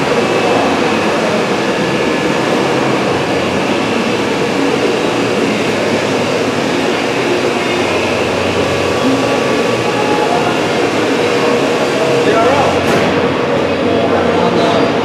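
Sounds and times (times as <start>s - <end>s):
lift motor whirring: 0.0s - 14.4s.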